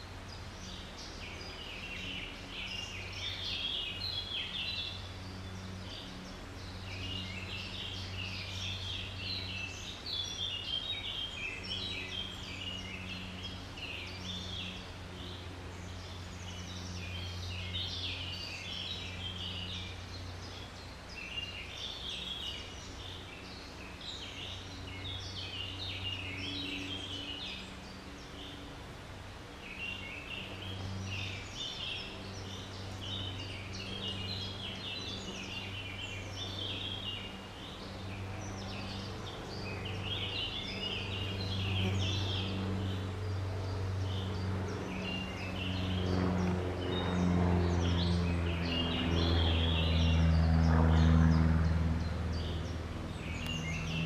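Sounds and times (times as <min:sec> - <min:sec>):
low steady hum: 0:00.0 - 0:54.0
woodland birds chorus: 0:00.0 - 0:54.0.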